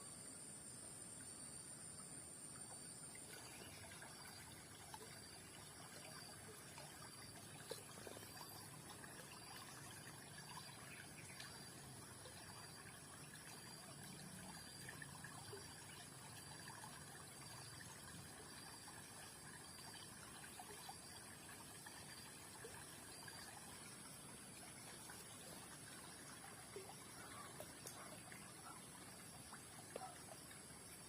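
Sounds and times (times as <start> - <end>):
water trickling in a ditch: 1.1 - 31.0.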